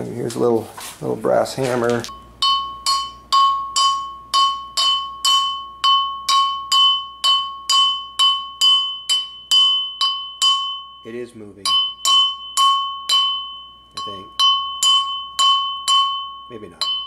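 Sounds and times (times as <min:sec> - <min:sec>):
hammer tapping ringing metal: 0:02.1 - 0:17.0.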